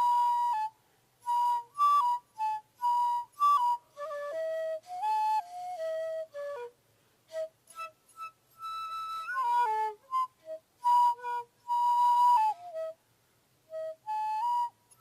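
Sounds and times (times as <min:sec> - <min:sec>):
bamboo flute slow melody: 0:00.0 - 0:15.0.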